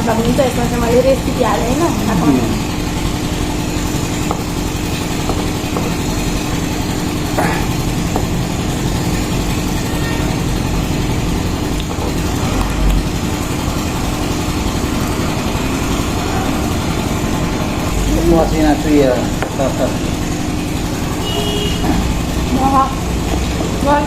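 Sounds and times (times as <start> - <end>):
constant hum: 0.0 - 24.0.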